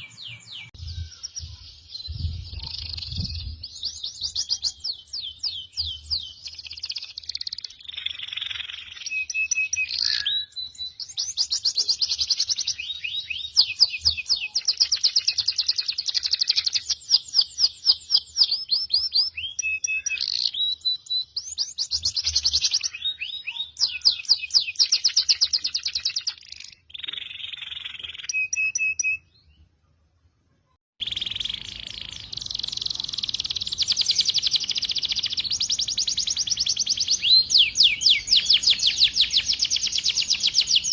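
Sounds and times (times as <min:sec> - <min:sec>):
songbird trills and chirps: 0:00.0 - 0:29.7, 0:31.0 - 0:40.9.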